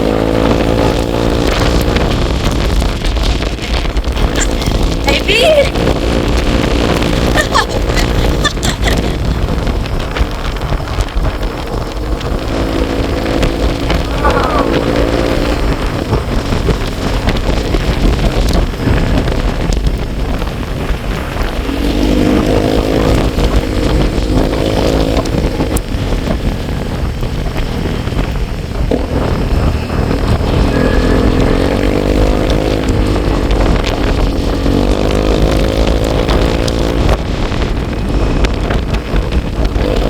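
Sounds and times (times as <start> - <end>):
vehicle engine revving: 0.0 - 40.0
wind rumble on microphone: 0.0 - 40.0.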